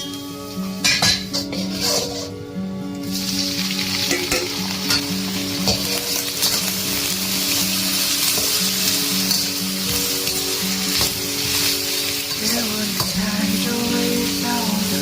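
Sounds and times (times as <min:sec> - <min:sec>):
food sizzling in a pan: 0:00.0 - 0:02.4, 0:03.0 - 0:15.0
soft background music: 0:00.0 - 0:15.0.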